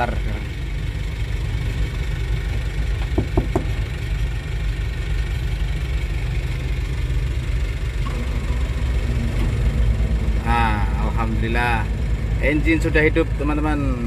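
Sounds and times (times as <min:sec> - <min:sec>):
diesel engine cranking and starting: 0:00.0 - 0:14.0.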